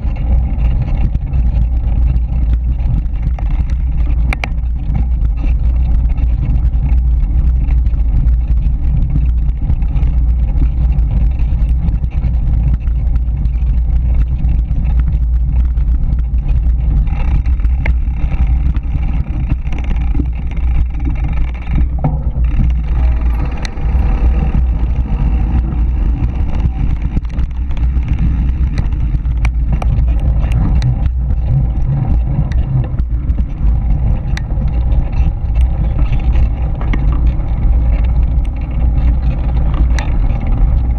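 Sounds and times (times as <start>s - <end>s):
bike clicks and rattles: 0.0s - 40.9s
tyres on loose gravel: 0.0s - 40.9s
wind buffeting microphone: 0.0s - 40.9s.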